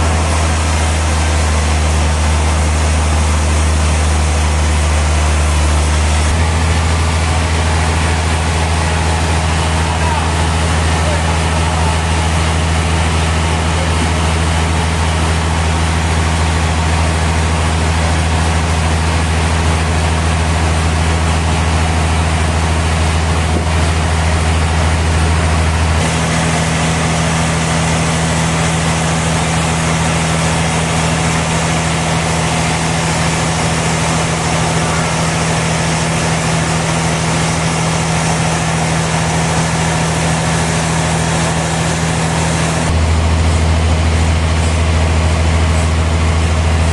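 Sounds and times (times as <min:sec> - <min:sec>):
noisy mechanical wash: 0:00.0 - 0:46.9
sawmill machinery humming: 0:00.0 - 0:46.9.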